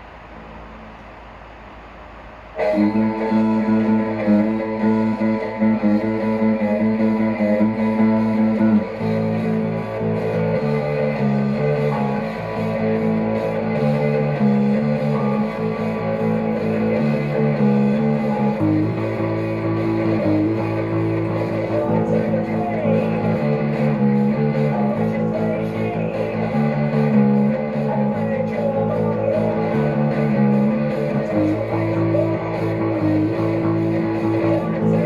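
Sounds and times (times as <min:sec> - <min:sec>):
strummed electric guitar chords: 0:00.0 - 0:35.0
bass guitar: 0:02.6 - 0:35.0.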